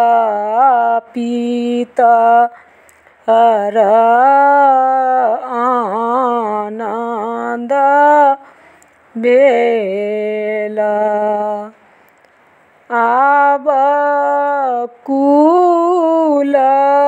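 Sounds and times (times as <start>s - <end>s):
woman singing unaccompanied: 0.0s - 11.8s, 12.8s - 17.0s.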